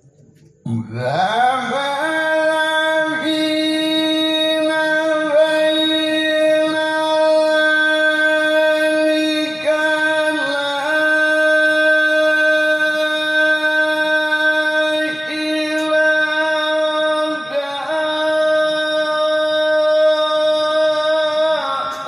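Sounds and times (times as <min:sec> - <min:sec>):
man reciting melodically: 0:00.6 - 0:22.0.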